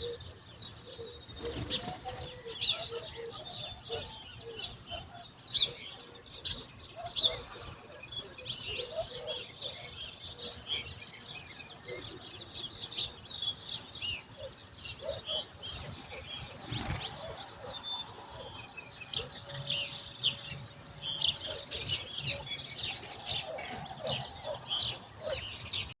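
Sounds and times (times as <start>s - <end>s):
lower bird calls: 0.0s - 26.0s
small birds chirping: 0.0s - 26.0s.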